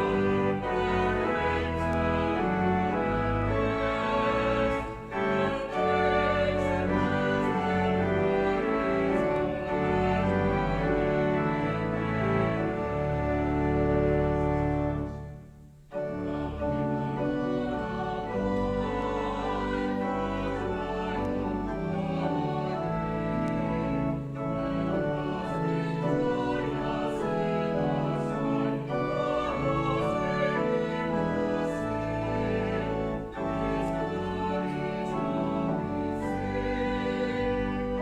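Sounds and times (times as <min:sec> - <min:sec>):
choir singing: 0:00.0 - 0:38.0
organ accompaniment: 0:00.0 - 0:38.0.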